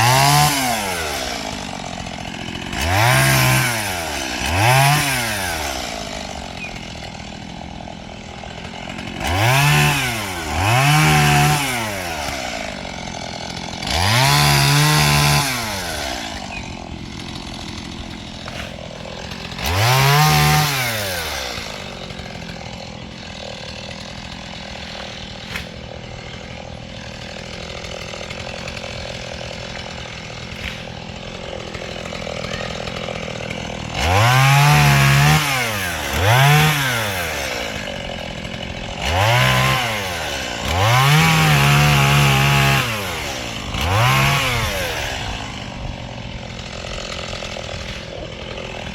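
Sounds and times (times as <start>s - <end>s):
chainsaw revving and idling: 0.0s - 48.9s.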